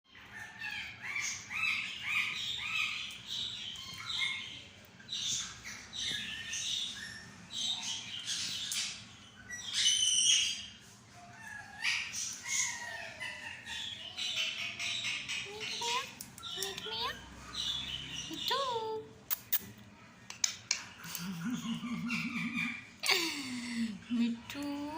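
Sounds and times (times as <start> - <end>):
parrot calling and chattering: 0.1 - 24.9.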